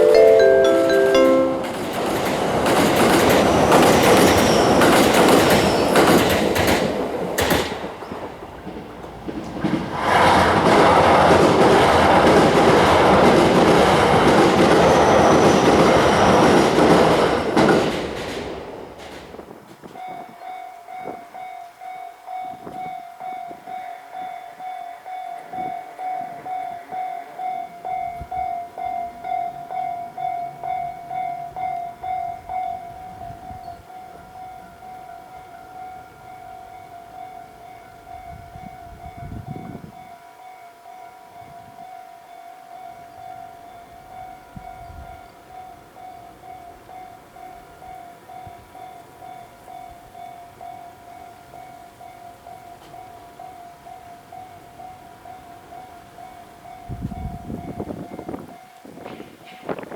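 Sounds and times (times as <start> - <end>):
level crossing warning bell: 0.0 - 7.6, 11.9 - 59.9
train rushing rumble with wheel clatter: 0.0 - 20.4, 25.4 - 40.0, 43.4 - 59.9.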